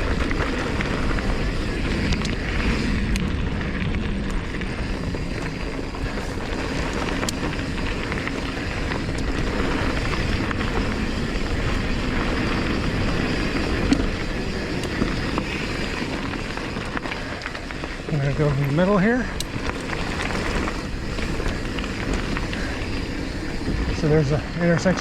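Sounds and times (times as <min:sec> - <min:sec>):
bike clicks and rattles: 0:00.0 - 0:25.0
tyres rolling on dirt: 0:00.0 - 0:25.0
wind rushing: 0:00.0 - 0:25.0.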